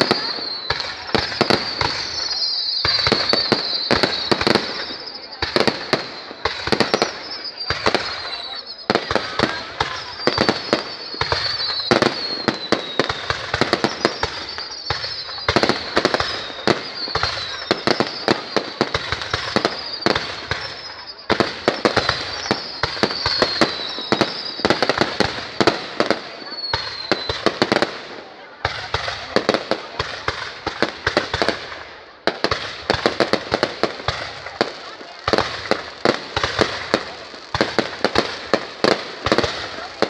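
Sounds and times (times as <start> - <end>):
fireworks crackling pops: 0.0 - 40.0
fireworks falling whistles: 0.0 - 40.0.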